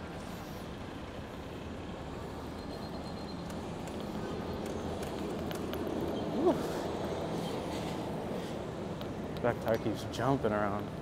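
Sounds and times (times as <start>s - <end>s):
traffic on wet streets: 0.0s - 11.0s.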